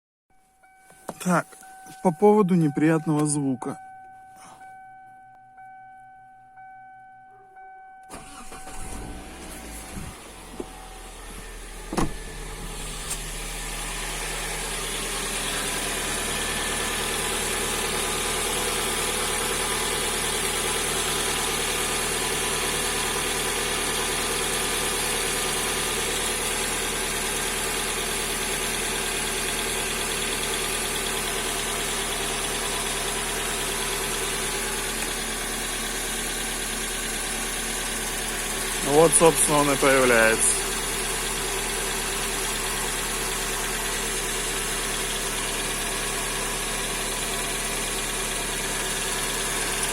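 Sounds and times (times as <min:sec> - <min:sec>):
car engine idling: 0:08.0 - 0:49.9.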